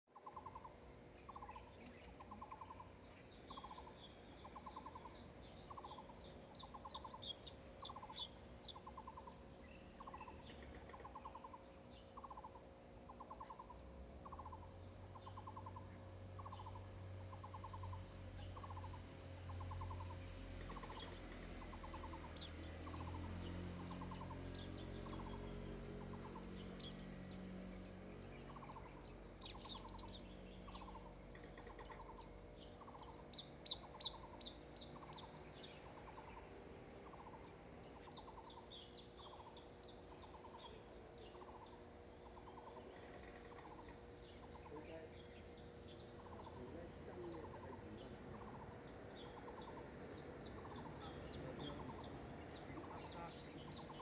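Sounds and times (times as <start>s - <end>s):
low pulsed bird call: 0.1s - 54.0s
distant motorboat engine hum: 0.2s - 54.0s
high bird chirps: 0.2s - 54.0s.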